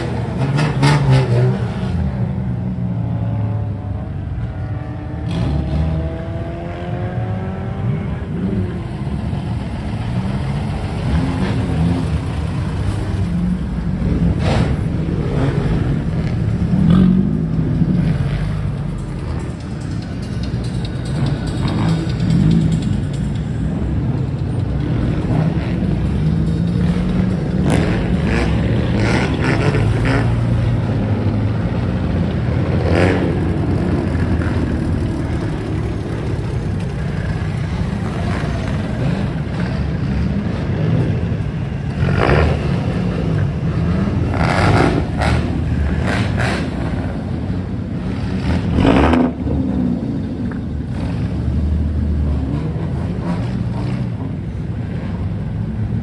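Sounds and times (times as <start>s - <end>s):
car engines running: 0.0s - 56.0s.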